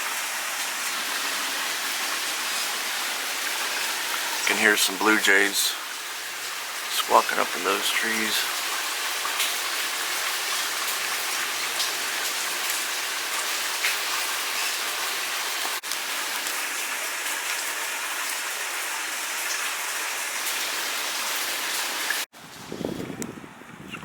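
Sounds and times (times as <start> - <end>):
steady rain falling: 0.0 - 22.3.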